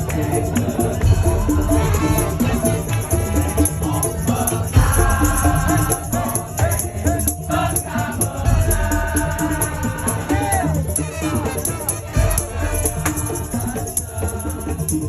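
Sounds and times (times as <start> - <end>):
pitched melody: 0.0 - 14.5
heavy drumming: 0.0 - 15.0
shakers: 0.0 - 15.0.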